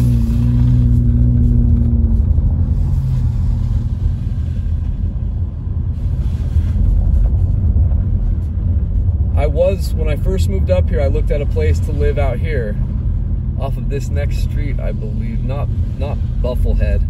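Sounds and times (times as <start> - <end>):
car engine hum: 0.0 - 17.0
tyres rumbling on snowy road: 0.0 - 17.0.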